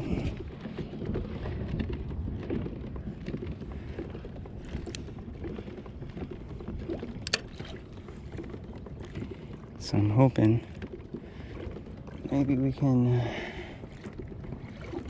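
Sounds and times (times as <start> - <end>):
kayak drive rumble: 0.0 - 15.0
water along hull: 0.0 - 15.0.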